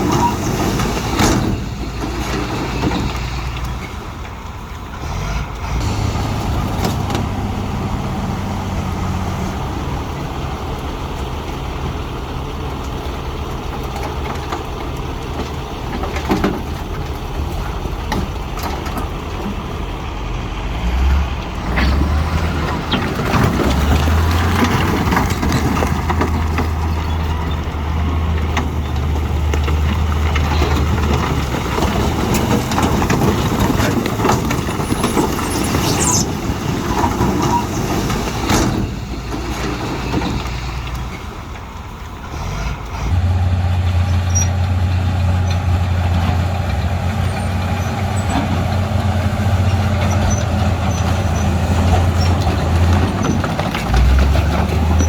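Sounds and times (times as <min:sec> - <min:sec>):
heavy machinery diesel engines: 0:00.0 - 0:55.0.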